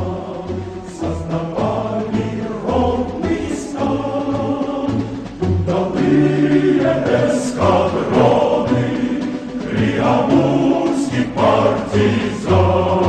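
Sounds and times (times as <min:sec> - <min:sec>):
choir singing a march-like song: 0:00.0 - 0:13.0
instrumental backing with bass pulse: 0:00.0 - 0:13.0.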